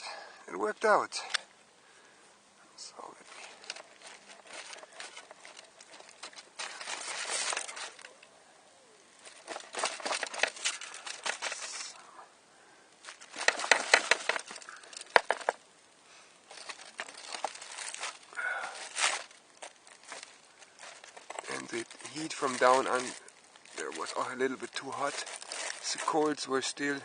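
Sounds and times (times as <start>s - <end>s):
material crinkling and rustling: 3.0s - 8.3s, 9.1s - 12.1s, 13.0s - 27.0s.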